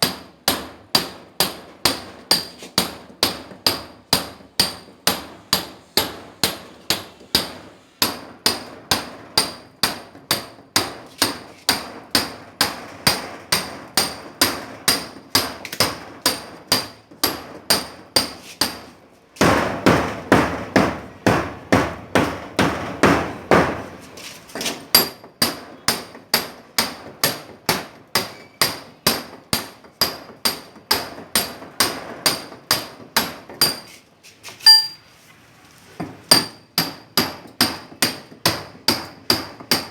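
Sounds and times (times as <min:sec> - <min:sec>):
hammer striking steel chisel: 0:00.0 - 0:19.6, 0:24.9 - 0:33.9, 0:34.6 - 0:35.0, 0:36.3 - 0:39.9.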